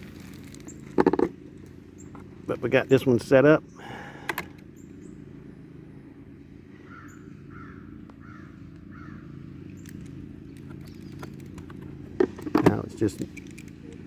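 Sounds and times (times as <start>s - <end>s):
bird calling: 0.0s - 5.7s, 6.6s - 14.0s
low background hum: 0.0s - 14.0s.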